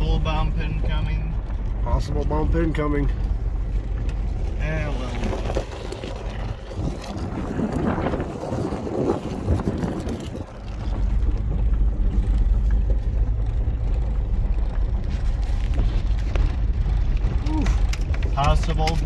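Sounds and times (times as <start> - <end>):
truck engine rumbling: 0.0 - 19.0
tyres on rough dirt trail: 0.0 - 19.0.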